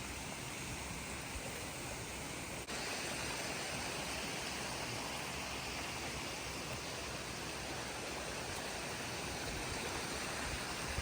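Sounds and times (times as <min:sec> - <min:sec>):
creek water flowing: 0:00.0 - 0:11.0.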